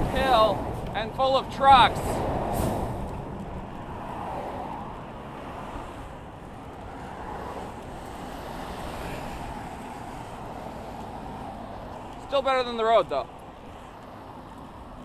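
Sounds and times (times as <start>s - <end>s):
road traffic rumble: 0.0s - 15.0s
trucks passing close: 0.0s - 15.0s.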